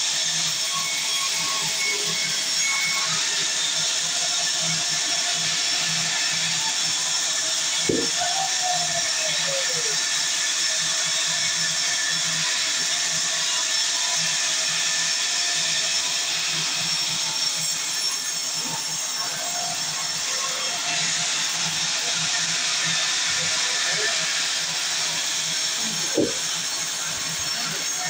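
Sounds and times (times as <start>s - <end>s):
sawmill saw whining: 0.0s - 28.0s.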